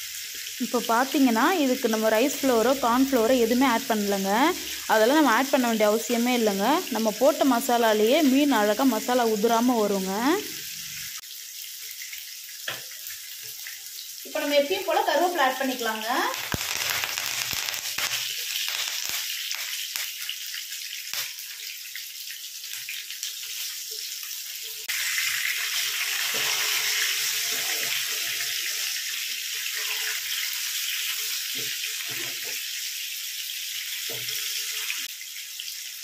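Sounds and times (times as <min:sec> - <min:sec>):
fish sizzling in oil: 0:00.0 - 0:36.0
leaves crackling in hot oil: 0:00.0 - 0:36.0.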